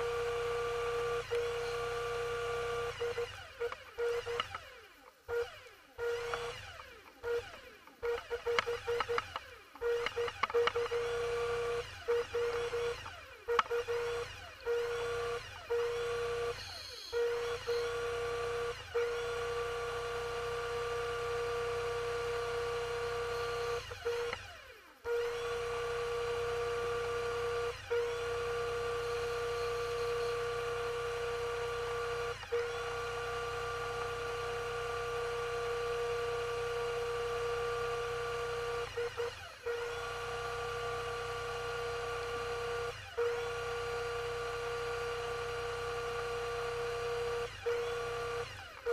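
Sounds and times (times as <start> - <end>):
underwater electric motor whine: 0.0 - 48.9.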